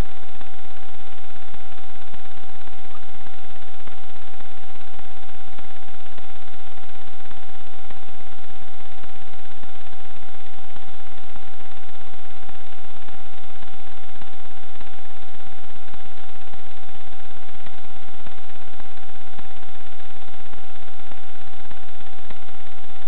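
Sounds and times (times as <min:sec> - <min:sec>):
electronic hiss: 0:00.0 - 0:23.0
high electronic whine: 0:00.0 - 0:23.0.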